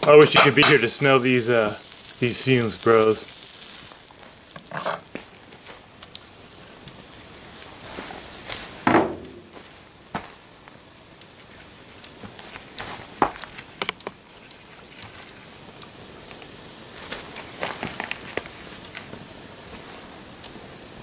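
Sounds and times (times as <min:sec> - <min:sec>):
crackles and snaps: 0:00.0 - 0:20.6
plastic burning with hiss: 0:00.0 - 0:21.0.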